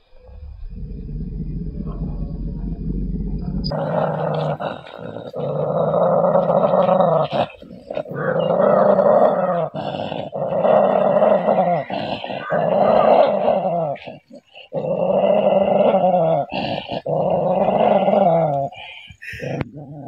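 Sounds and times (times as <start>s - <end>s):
dog growling: 0.3s - 20.0s.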